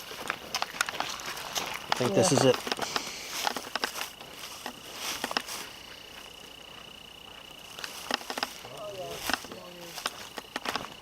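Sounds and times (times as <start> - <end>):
footsteps through dry brush: 0.0 - 11.0.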